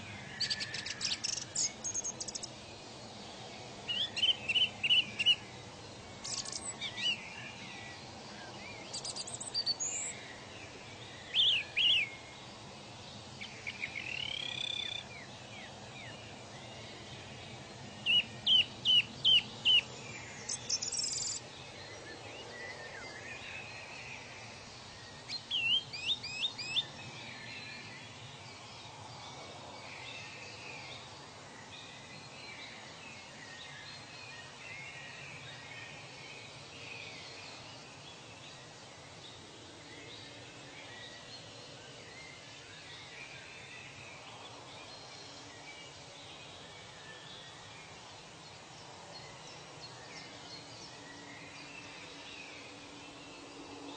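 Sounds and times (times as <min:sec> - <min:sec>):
faint background hiss: 0:00.0 - 0:53.9
wild birds chirping and whistling: 0:00.0 - 0:53.9.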